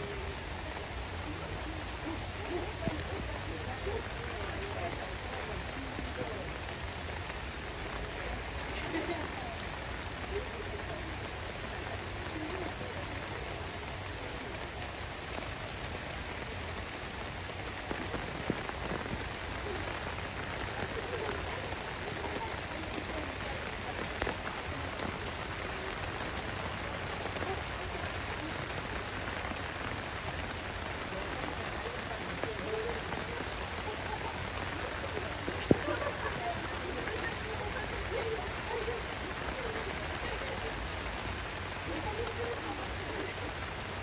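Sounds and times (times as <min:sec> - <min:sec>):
heavy rain on hard surfaces: 0:00.0 - 0:44.0.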